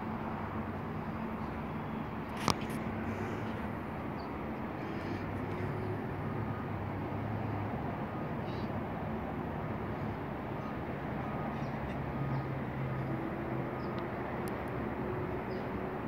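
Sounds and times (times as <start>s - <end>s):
distant vehicle hum: 0.0s - 16.0s.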